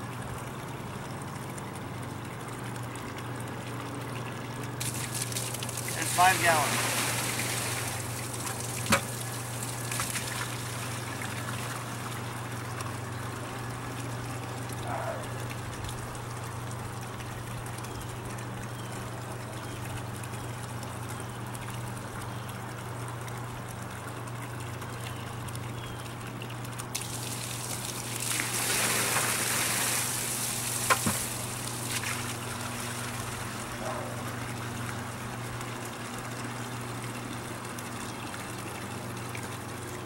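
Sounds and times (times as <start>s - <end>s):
low steady hum: 0.0s - 40.0s
water pouring into a bucket: 1.2s - 18.7s, 19.3s - 40.0s.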